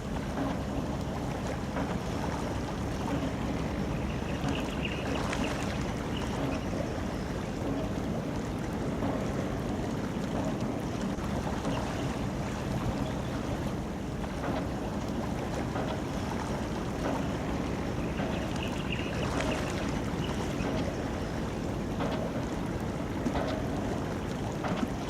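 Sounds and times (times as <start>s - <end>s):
ship engine low rumble: 0.0s - 25.0s
water wash: 0.0s - 25.0s.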